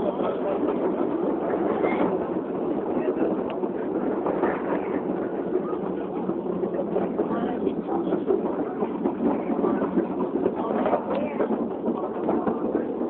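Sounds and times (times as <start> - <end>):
faint voices: 0.0 - 13.0
train rumbling on track: 0.0 - 13.0.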